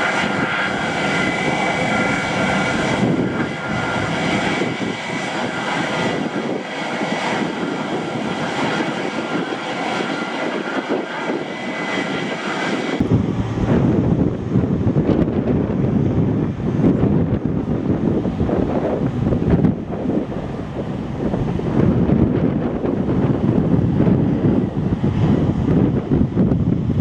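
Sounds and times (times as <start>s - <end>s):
jet engines roaring with whine: 0.0s - 27.0s
wind rumbling on microphone: 0.0s - 27.0s.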